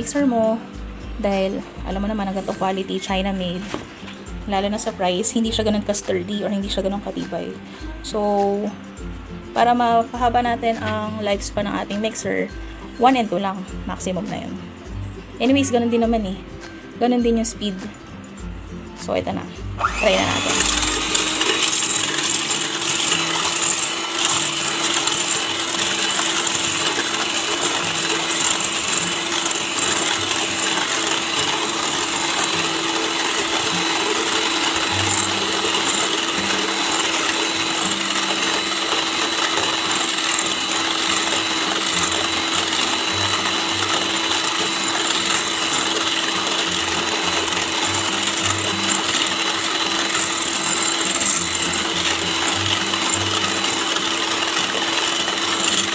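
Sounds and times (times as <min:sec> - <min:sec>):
hand mixer whisking cream: 0:00.0 - 0:08.8, 0:19.8 - 0:55.9.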